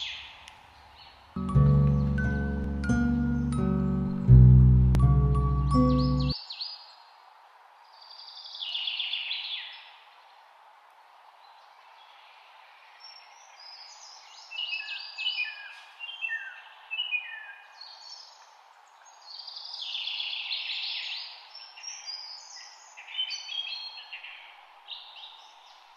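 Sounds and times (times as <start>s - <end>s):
small birds chirping: 0.0s - 7.1s, 11.4s - 25.9s.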